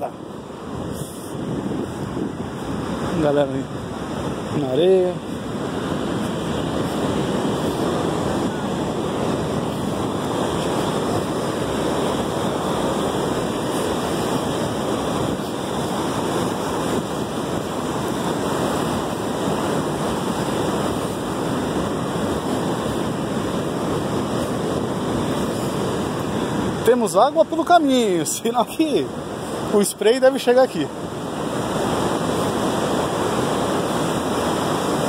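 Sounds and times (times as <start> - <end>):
wind buffeting microphone: 0.0 - 29.9, 30.7 - 35.0
surf washing over rocks: 0.0 - 35.0.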